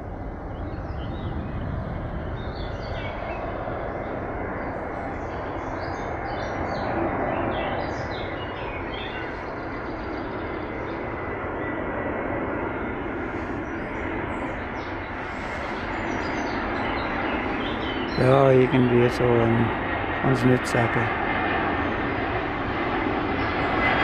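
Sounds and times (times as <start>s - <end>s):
jet airliner rumble: 0.0s - 24.0s
small birds chirping: 0.4s - 11.9s, 12.7s - 20.9s.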